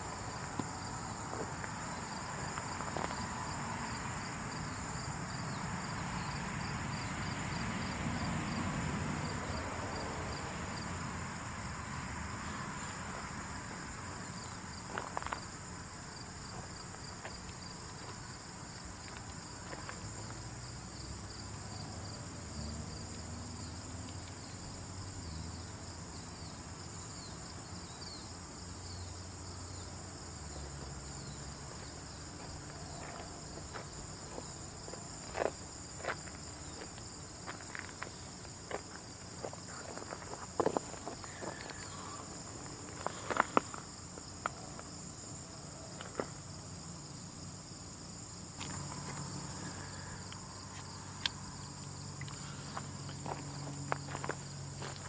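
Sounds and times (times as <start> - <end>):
insects chirring: 0.0 - 8.6, 9.4 - 55.0.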